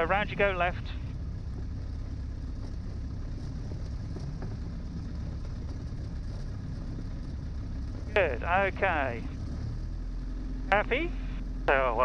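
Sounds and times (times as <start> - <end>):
small airplane engine running: 0.0 - 12.0.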